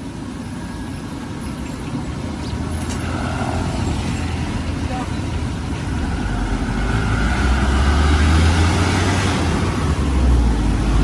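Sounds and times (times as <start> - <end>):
street traffic: 0.0 - 11.0
vehicle engine rumbling: 0.0 - 11.0.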